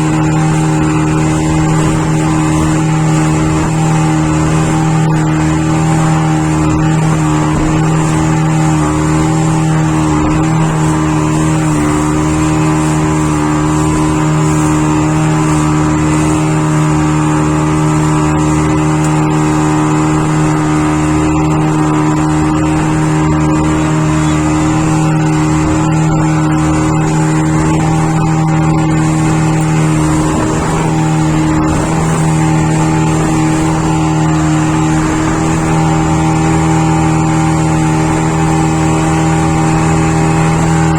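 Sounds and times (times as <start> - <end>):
motorboat engine running: 0.0 - 40.9.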